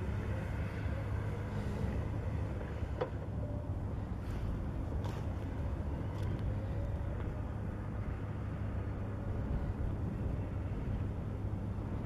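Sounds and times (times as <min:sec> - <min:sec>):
wheel loader diesel engine: 0:00.0 - 0:12.0.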